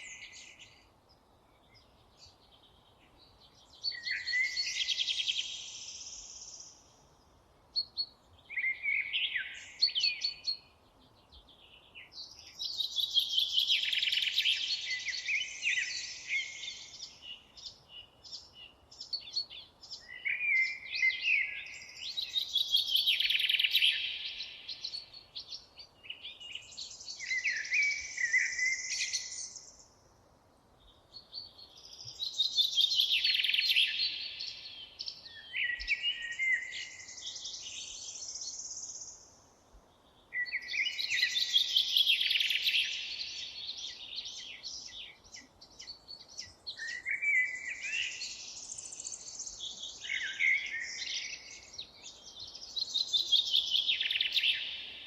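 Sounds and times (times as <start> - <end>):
faint steady background hiss: 0.0 - 55.0
songbirds singing: 0.0 - 55.0.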